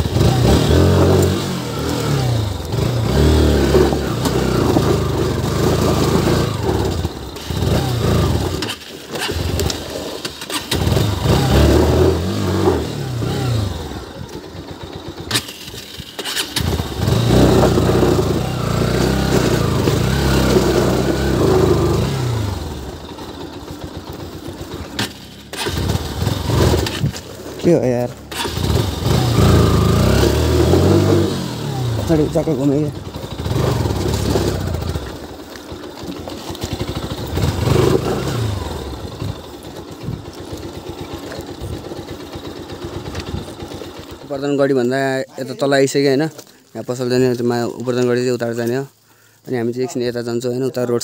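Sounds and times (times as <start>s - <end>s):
motorcycle engine revving: 0.0s - 48.1s.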